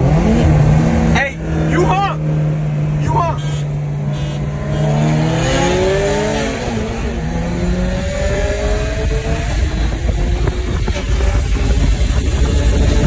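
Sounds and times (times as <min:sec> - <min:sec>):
car engine at full throttle: 0:00.0 - 0:13.0
road and wind noise: 0:00.0 - 0:13.0.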